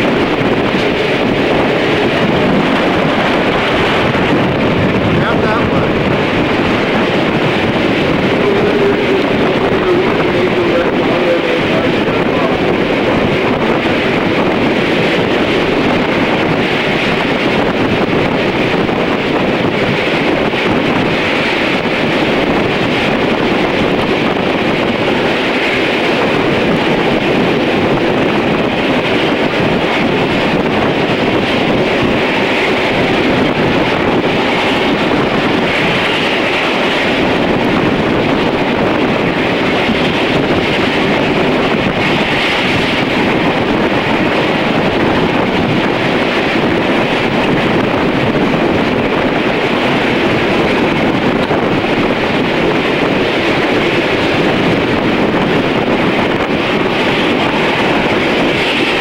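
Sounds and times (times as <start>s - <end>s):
train coaches rumbling on track: 0.0s - 59.0s
wind buffeting microphone: 0.0s - 59.0s.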